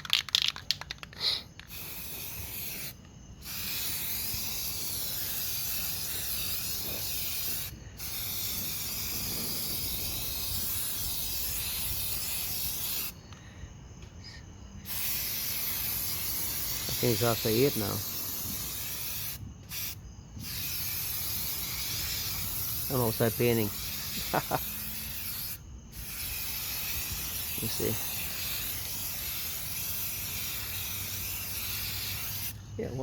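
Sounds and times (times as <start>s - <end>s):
aerosol spray can hissing: 0.0s - 13.2s, 14.8s - 32.6s.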